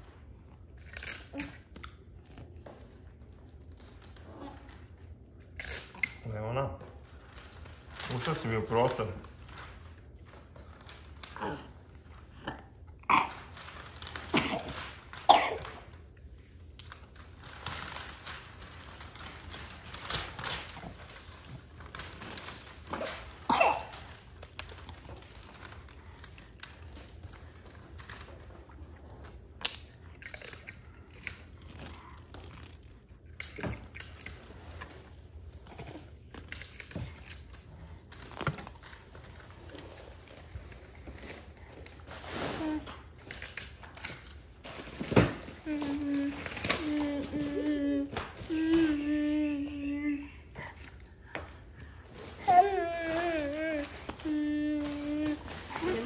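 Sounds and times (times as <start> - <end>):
rustling and crinkling: 0.0 - 56.0.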